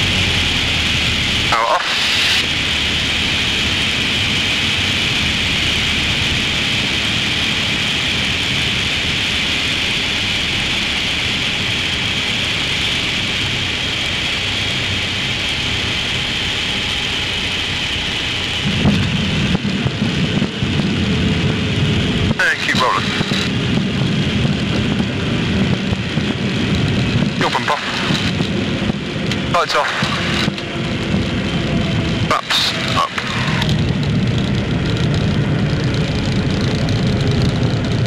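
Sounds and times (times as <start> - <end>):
aircraft engine and propeller drone: 0.0 - 38.0.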